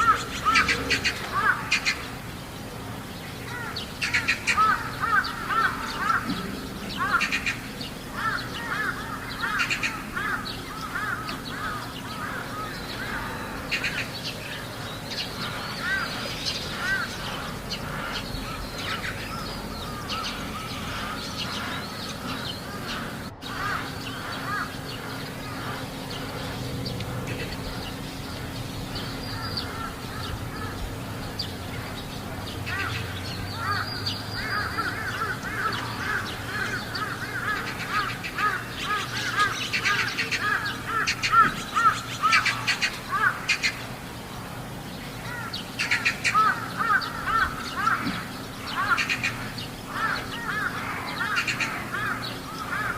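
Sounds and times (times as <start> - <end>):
crows cawing: 0.0 - 2.1, 3.4 - 14.3, 15.3 - 31.1, 32.6 - 43.9, 45.2 - 52.9
steady low hum: 0.0 - 52.9.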